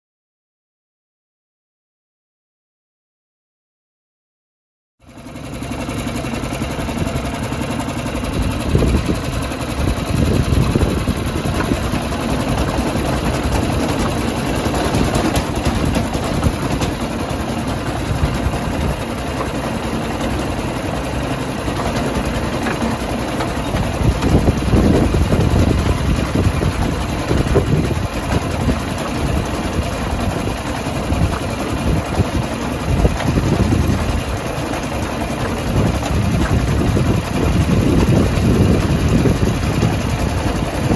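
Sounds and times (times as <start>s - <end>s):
small locomotive engine rumbling: 5.0s - 40.9s.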